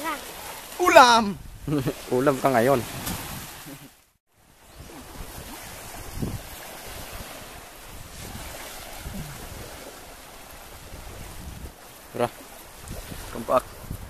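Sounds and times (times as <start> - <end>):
surf washing on beach: 0.0 - 14.0
wind buffeting microphone: 0.9 - 3.8, 4.6 - 14.0.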